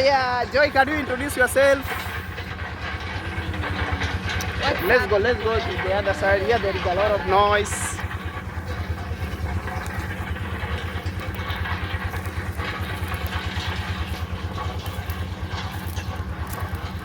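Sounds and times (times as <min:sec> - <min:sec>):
machine engine humming: 0:00.0 - 0:17.0.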